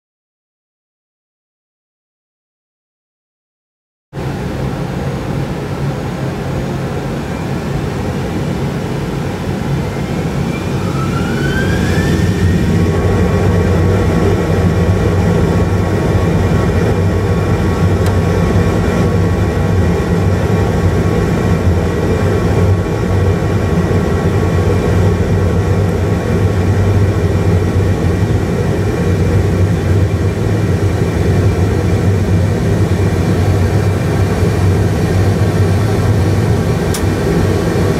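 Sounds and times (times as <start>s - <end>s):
jet engines spooling up: 4.2s - 37.9s
low rumble of take-off roll: 4.2s - 37.9s.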